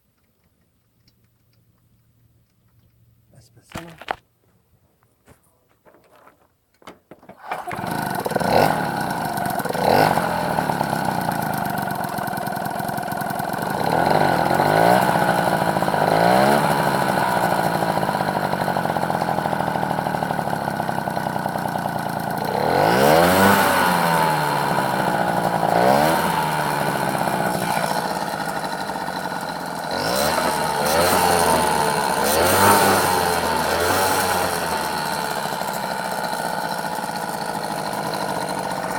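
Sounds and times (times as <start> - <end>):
moped engine revving: 7.3 - 38.9.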